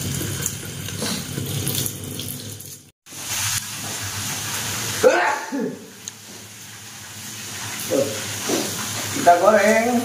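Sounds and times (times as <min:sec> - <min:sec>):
water running from tap: 0:00.0 - 0:10.0.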